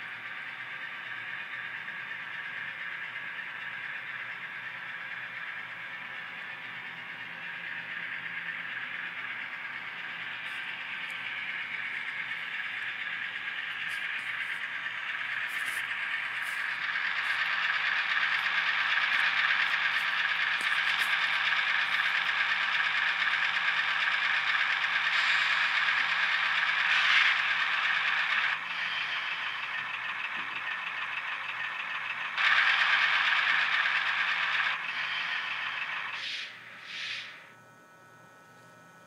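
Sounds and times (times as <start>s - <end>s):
model train cars rattling on track: 0.0s - 37.4s
model locomotive whine: 0.0s - 39.0s.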